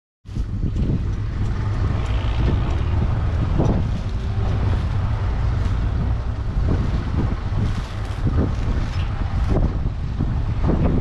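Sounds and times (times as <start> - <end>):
tractor diesel engine running: 0.3 - 11.0.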